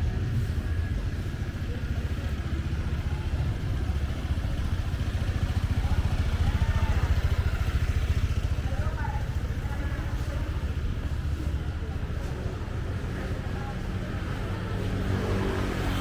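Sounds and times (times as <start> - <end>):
busy street traffic rumble: 0.0 - 16.0.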